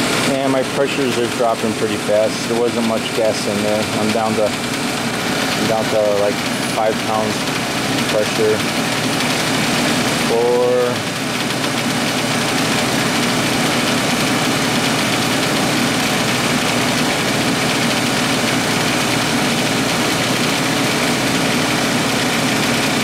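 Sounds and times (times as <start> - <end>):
compressor machine running: 0.0 - 23.0.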